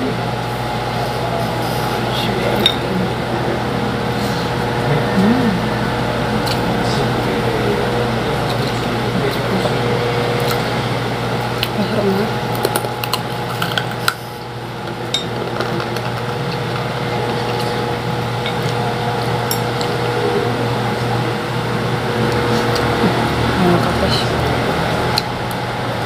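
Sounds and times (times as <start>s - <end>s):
electric fan whirring: 0.0s - 26.0s.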